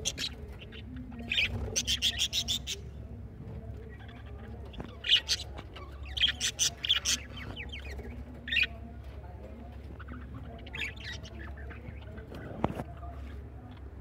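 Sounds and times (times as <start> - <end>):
small parrots chirping: 0.0 - 2.9, 3.8 - 8.8, 9.7 - 14.0.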